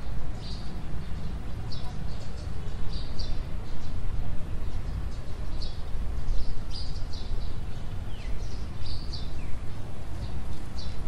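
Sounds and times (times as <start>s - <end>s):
birds chirping: 0.0s - 11.0s
steady low rumble: 0.0s - 11.0s.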